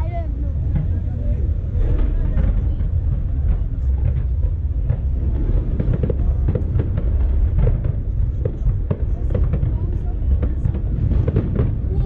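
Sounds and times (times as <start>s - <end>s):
low rumble: 0.0s - 12.0s
fireworks popping and crackling: 0.6s - 12.0s.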